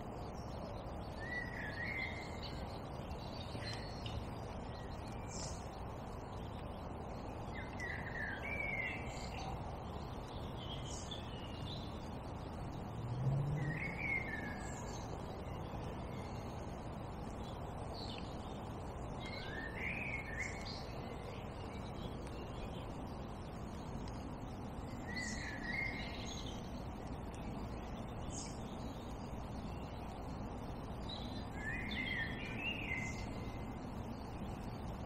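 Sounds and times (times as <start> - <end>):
songbird chirping: 0.0 - 35.0.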